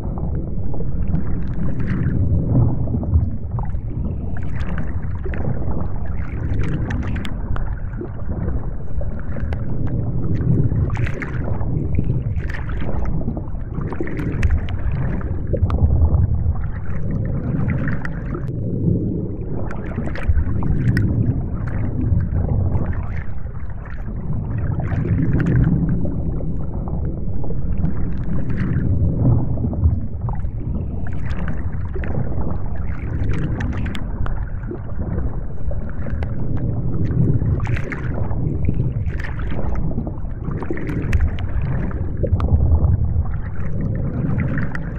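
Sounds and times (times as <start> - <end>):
underwater rush of water: 0.0 - 44.9.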